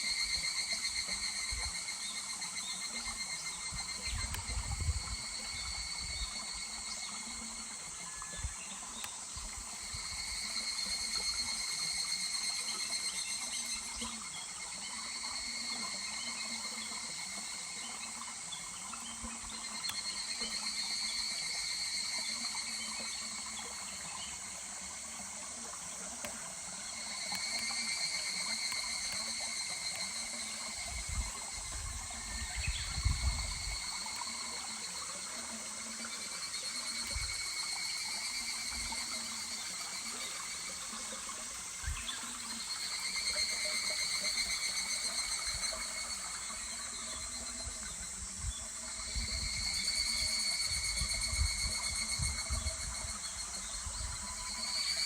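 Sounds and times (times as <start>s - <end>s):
cicadas calling: 0.0s - 55.0s.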